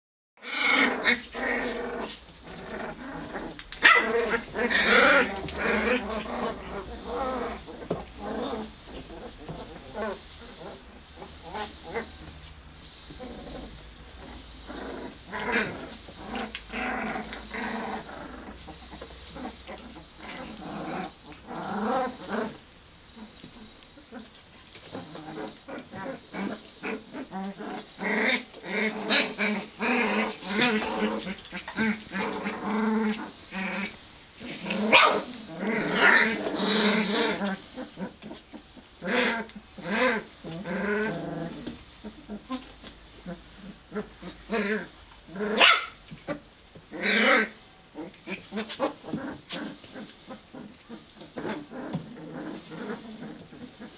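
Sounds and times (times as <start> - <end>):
puppies growling and yipping: 0.4 - 53.9.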